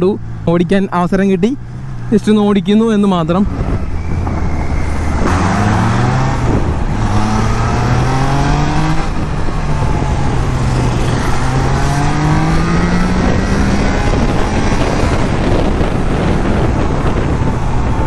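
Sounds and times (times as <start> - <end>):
motorcycle engine accelerating hard: 3.5 - 18.0.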